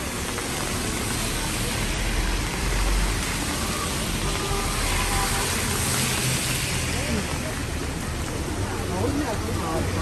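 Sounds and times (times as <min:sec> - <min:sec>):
car driving by on wet road: 0:00.0 - 0:10.0
heavy rain hissing: 0:00.0 - 0:10.0.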